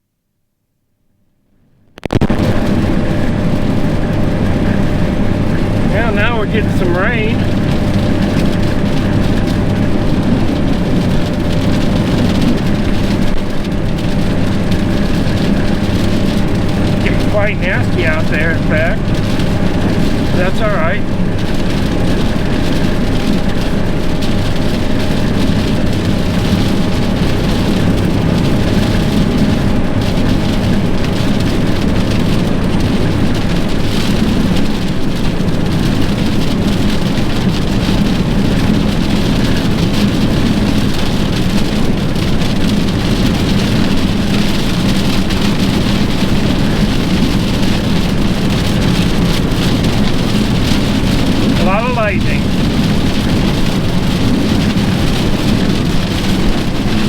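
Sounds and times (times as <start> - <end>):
engine hum and road noise: 2.0 - 57.0
rain hissing on vehicle: 2.0 - 57.0.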